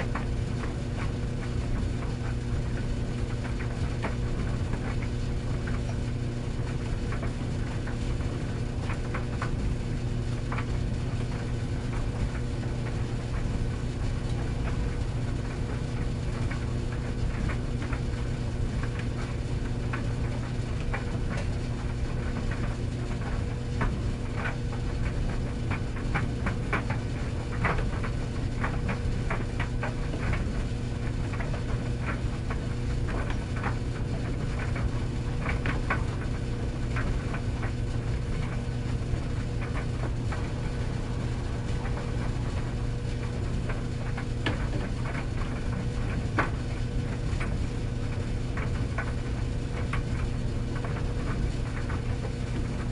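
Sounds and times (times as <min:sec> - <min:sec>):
tumble dryer humming and rumbling: 0:00.0 - 0:52.9.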